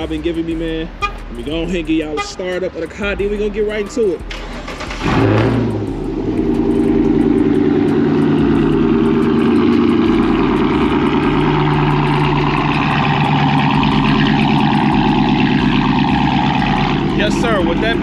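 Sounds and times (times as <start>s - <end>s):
car engine starting and idling: 0.0s - 18.0s.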